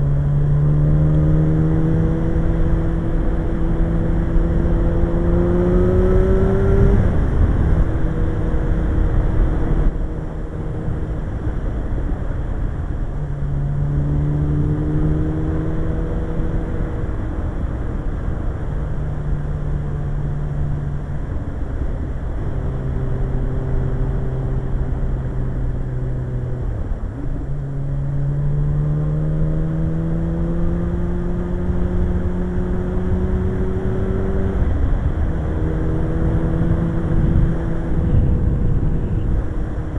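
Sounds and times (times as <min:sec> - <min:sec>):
motorcycle engine revving: 0:00.0 - 0:11.9, 0:13.1 - 0:18.1, 0:18.7 - 0:39.9
wind noise: 0:00.0 - 0:28.7, 0:29.4 - 0:39.9.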